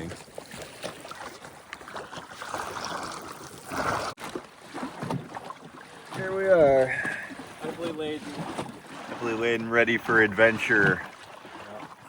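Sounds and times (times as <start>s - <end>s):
surges of wash: 0.0s - 12.0s
water rushing along a hull: 0.0s - 12.0s.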